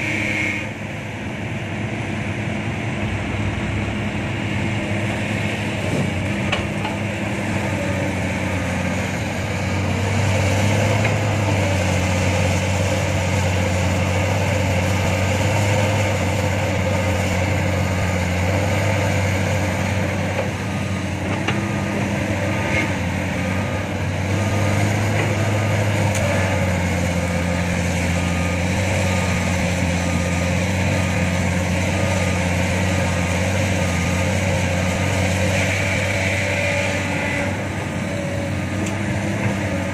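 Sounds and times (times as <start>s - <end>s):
diesel truck engine labouring: 0.0s - 39.9s.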